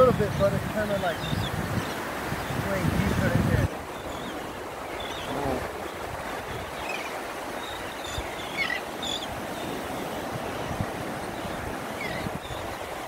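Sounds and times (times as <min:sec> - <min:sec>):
ocean surf: 0:00.0 - 0:13.0
wind noise: 0:00.0 - 0:13.0.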